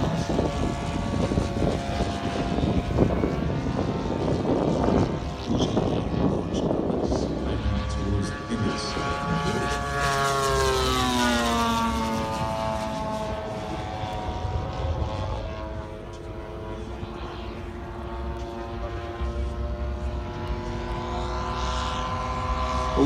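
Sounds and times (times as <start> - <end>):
model plane engine droning: 0.0 - 23.0.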